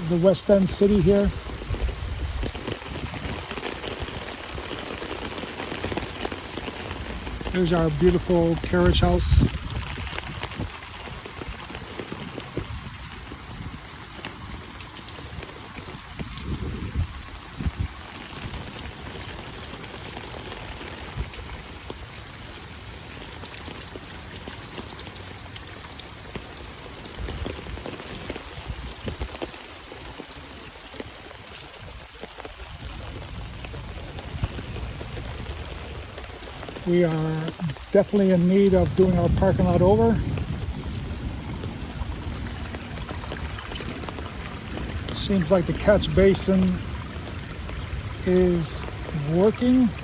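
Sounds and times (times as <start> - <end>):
heavy rain on hard surfaces: 0.0 - 50.0.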